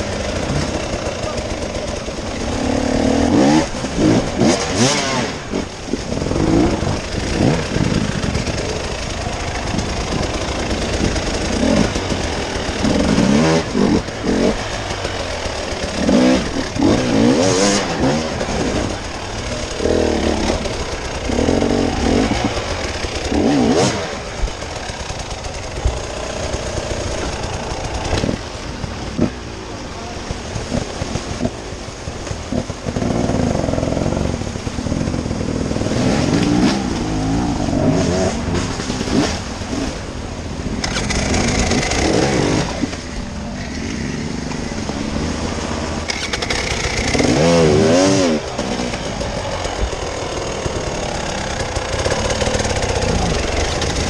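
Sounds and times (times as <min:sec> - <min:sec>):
off-road engine revving: 0:00.0 - 0:54.0.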